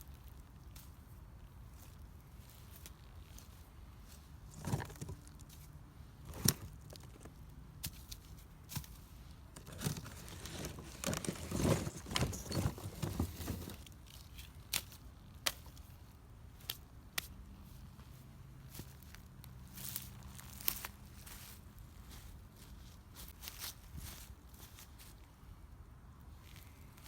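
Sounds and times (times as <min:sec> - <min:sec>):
rustling and crinkling: 0:00.0 - 0:25.4, 0:26.2 - 0:27.0.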